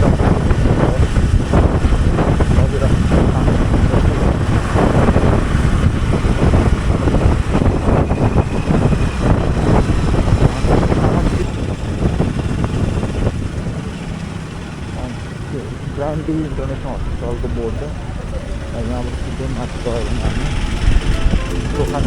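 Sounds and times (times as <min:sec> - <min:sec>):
motorcycle engine running: 0:00.0 - 0:21.3
wind rushing over microphone: 0:00.0 - 0:22.0.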